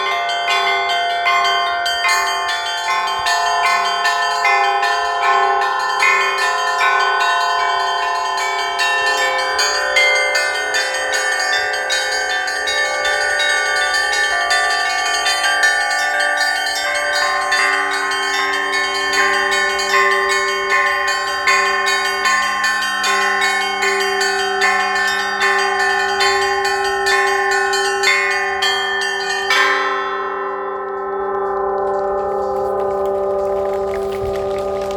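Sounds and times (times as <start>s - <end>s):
church bells rung fast: 0.0s - 34.9s.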